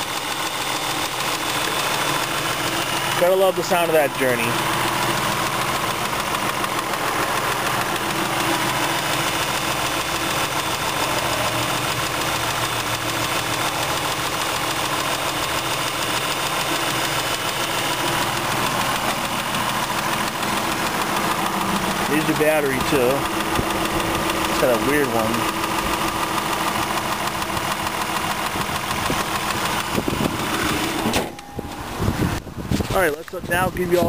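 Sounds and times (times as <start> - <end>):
car engine running steadily: 0.0 - 34.0.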